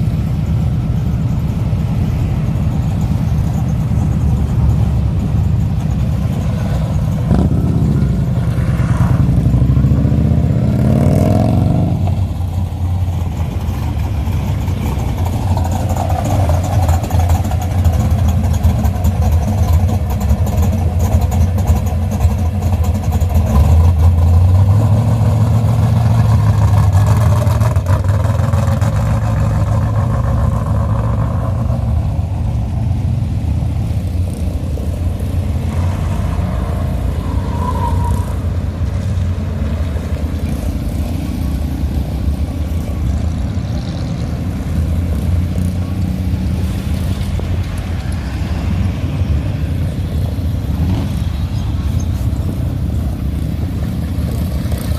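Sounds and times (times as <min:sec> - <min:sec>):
hot rod engines rumbling: 0:00.0 - 0:54.9.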